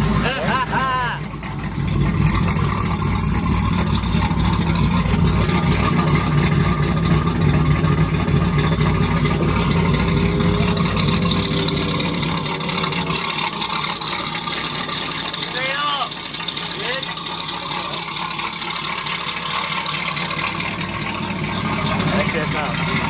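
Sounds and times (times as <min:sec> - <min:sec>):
pickup truck engine running: 0:00.0 - 0:23.0.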